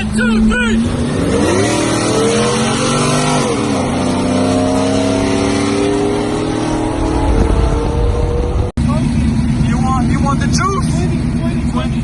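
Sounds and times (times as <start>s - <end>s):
vehicle engine accelerating: 0.0s - 12.0s.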